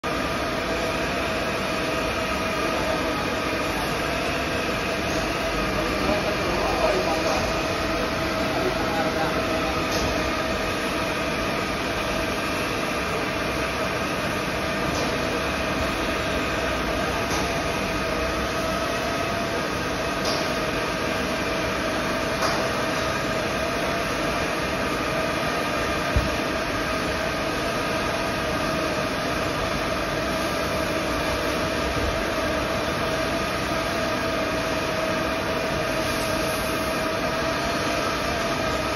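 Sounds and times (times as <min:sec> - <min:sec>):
mechanical hum: 0:00.0 - 0:38.9.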